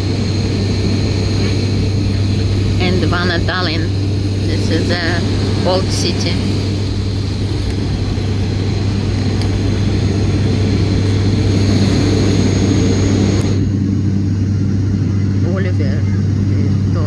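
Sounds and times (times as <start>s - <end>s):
high hiss of airflow: 0.0s - 13.7s
airliner engines droning in cabin: 0.0s - 17.0s.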